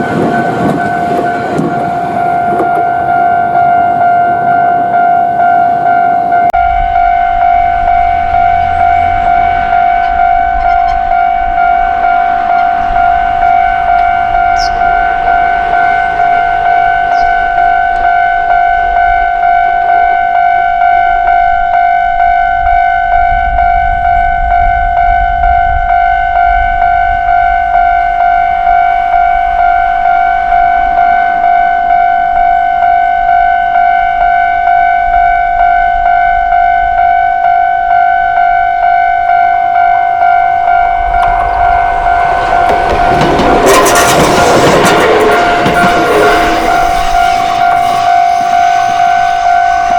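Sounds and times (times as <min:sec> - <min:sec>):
level crossing warning bell: 0:00.0 - 0:49.9.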